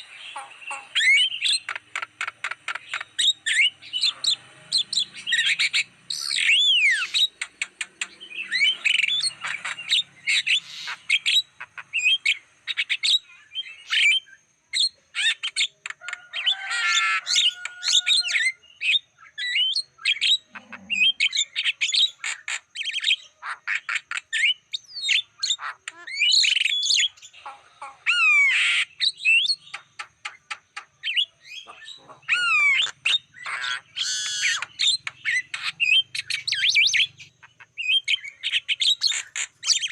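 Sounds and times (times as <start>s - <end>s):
myna bird singing: 0.0s - 39.9s.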